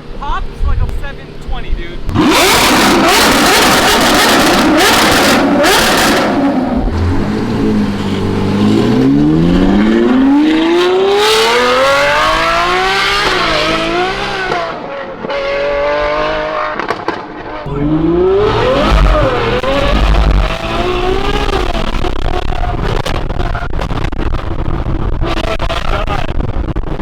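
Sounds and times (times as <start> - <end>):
car engine revving high: 2.1 - 26.9.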